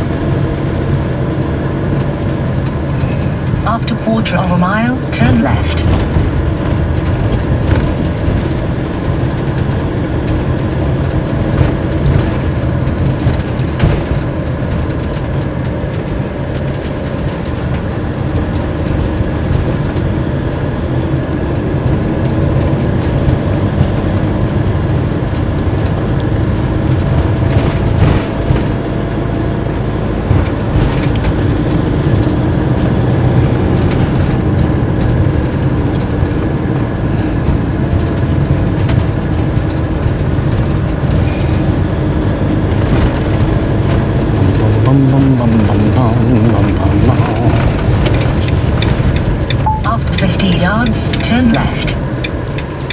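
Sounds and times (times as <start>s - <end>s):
engine and tyres rumbling: 0.0s - 52.9s
cab knocks and rattles: 5.8s - 49.7s.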